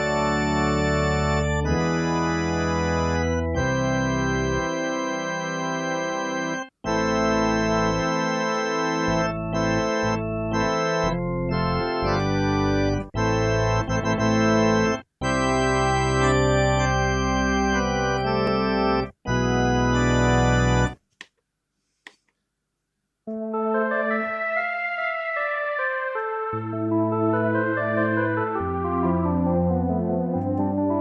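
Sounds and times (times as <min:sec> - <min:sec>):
synthesizer organ chords: 0:00.0 - 0:21.0, 0:23.3 - 0:31.0.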